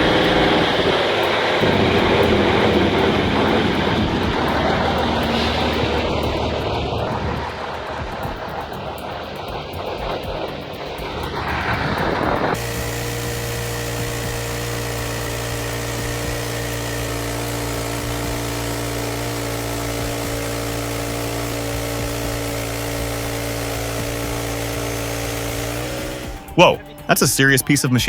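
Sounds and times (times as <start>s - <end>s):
heavy machine engine drone: 0.0s - 27.2s
rough loud machine noise: 0.0s - 27.2s.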